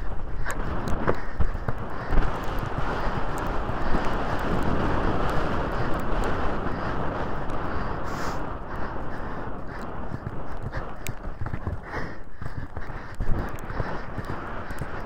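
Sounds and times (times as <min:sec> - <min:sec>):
horse hoofbeats galloping: 0:00.0 - 0:15.0
wind rushing over microphone: 0:00.0 - 0:15.0.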